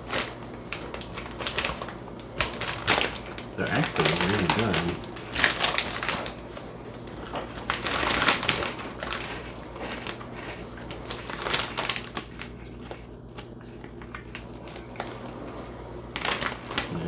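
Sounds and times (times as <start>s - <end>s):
crunchy snacks being chewed: 0.0s - 17.0s.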